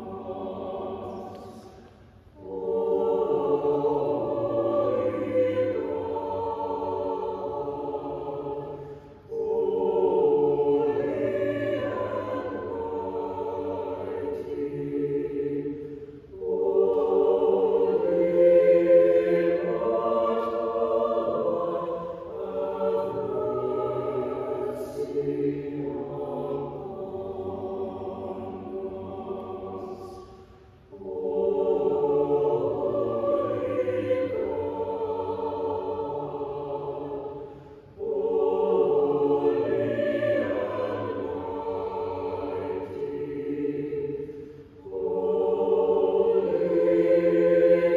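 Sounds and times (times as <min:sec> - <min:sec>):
choir singing sustained chords: 0:00.0 - 0:47.9.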